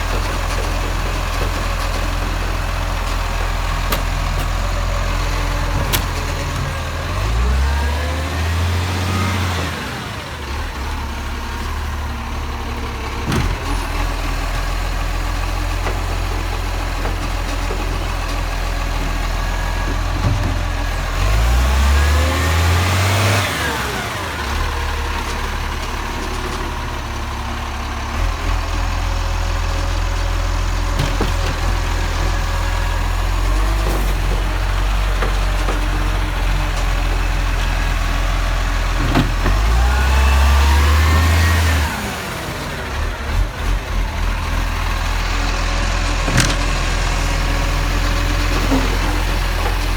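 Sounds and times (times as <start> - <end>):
garbage truck engine revving: 0.0 - 49.9.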